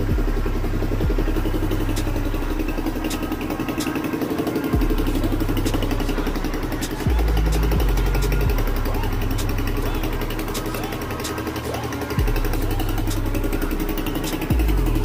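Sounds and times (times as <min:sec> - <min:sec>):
engine idling: 0:00.0 - 0:15.0
hip-hop beat: 0:00.0 - 0:15.0.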